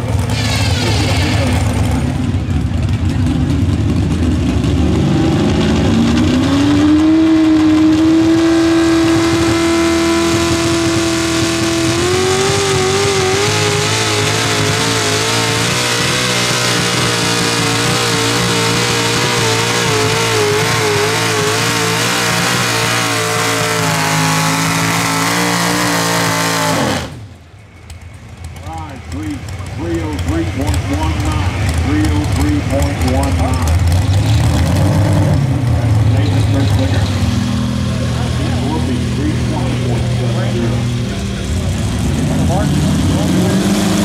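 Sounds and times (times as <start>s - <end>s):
tractor engine at full throttle: 0.0s - 44.0s.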